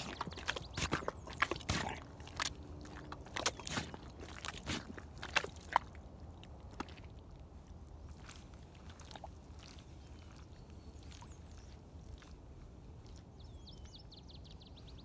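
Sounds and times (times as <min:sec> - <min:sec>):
boots squelching in mud: 0:00.0 - 0:14.2.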